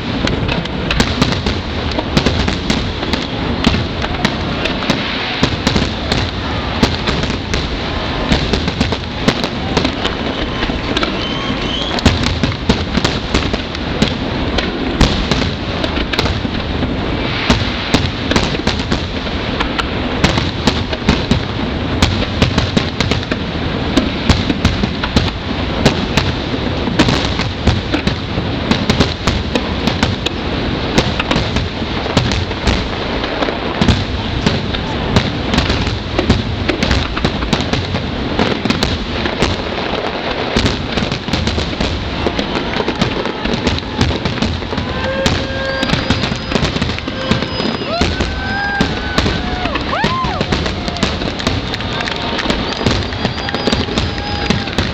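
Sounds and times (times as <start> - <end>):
distant fireworks barrage: 0.0 - 54.9.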